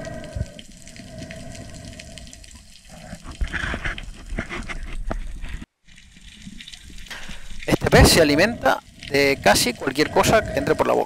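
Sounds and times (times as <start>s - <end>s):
underwater rushing water: 0.0s - 4.4s, 5.4s - 11.0s.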